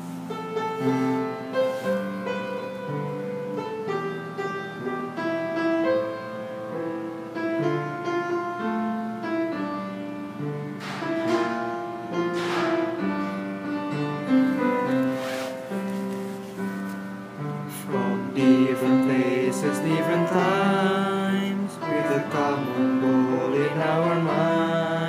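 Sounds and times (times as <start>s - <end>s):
piano notes and chords: 0.0s - 25.0s.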